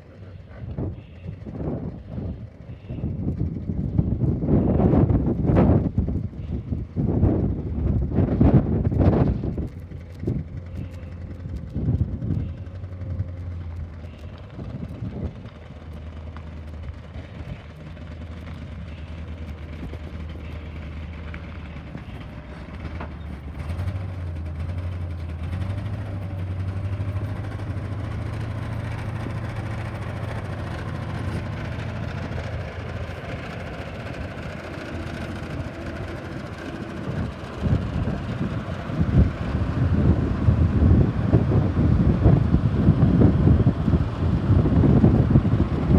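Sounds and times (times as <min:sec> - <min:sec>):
truck engine idling: 0:00.0 - 0:45.9
wind buffeting microphone: 0:00.6 - 0:45.9.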